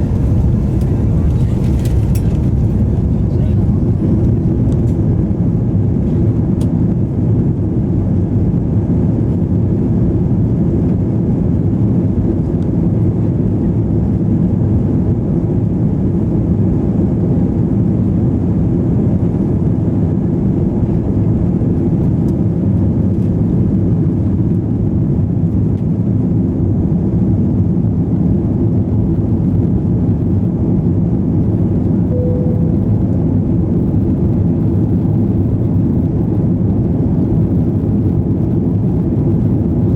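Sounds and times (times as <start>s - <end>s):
airliner engines rumbling in cabin: 0.0s - 39.9s.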